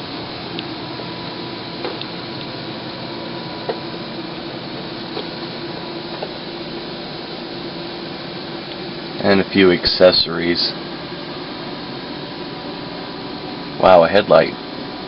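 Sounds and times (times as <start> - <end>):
mechanical hum and hiss: 0.0 - 15.0.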